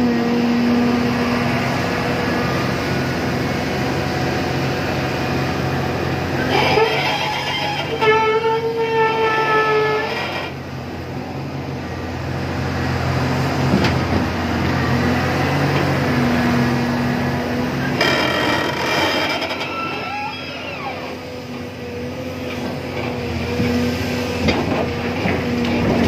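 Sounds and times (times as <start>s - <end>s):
crane engine and hydraulics drone: 0.0s - 26.0s.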